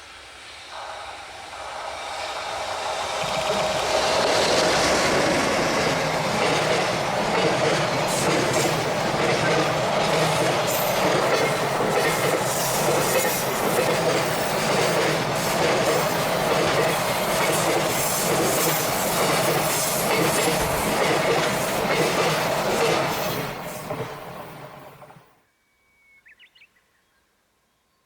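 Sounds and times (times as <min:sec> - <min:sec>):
train wheels clattering over rails: 0:00.5 - 0:25.2.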